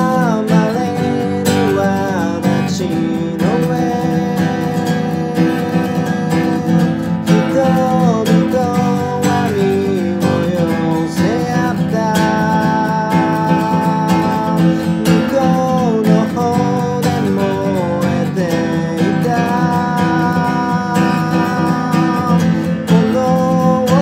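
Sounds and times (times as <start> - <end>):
acoustic guitar strumming: 0.0 - 24.0
person singing: 0.0 - 24.0.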